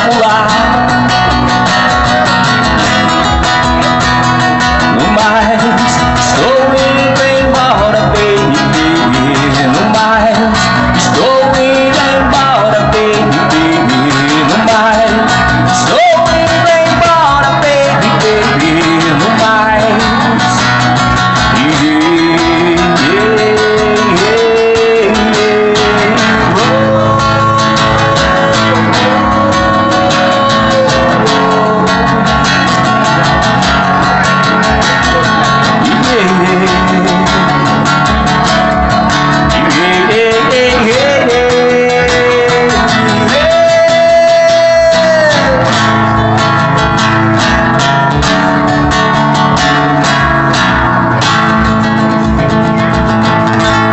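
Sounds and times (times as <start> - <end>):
lead guitar solo: 0.0 - 53.9
strummed rhythm guitar: 0.0 - 53.9.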